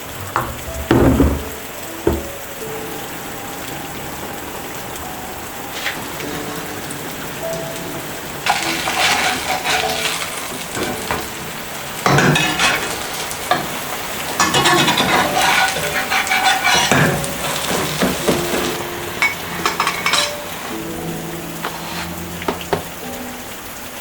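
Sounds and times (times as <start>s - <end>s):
food sizzling in a pan: 2.0s - 23.4s.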